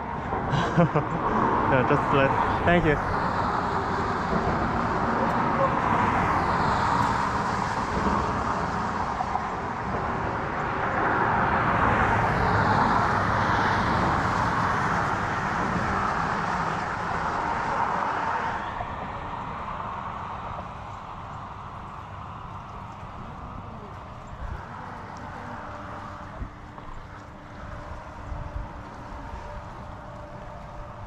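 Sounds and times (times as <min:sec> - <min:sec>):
road traffic tyre noise: 0:00.0 - 0:31.0.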